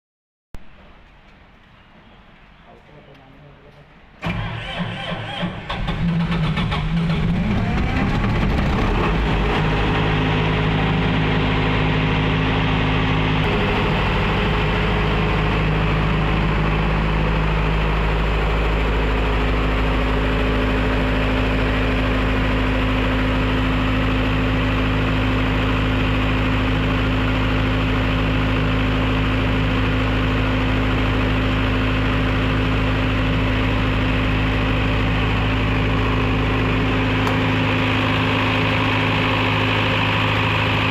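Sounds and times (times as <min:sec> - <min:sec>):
diesel generator running: 0:00.6 - 0:40.9.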